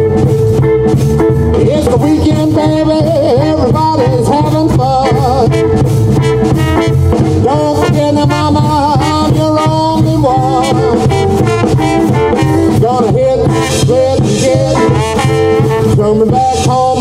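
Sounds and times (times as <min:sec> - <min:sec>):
blues band playing: 0:00.0 - 0:17.0
trombone sliding notes: 0:00.0 - 0:17.0.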